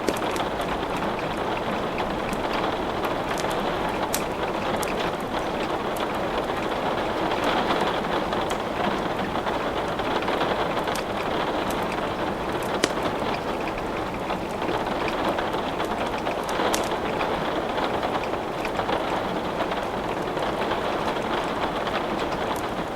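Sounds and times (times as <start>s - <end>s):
fire crackling and popping: 0.0s - 22.9s
steady rain: 0.0s - 22.9s.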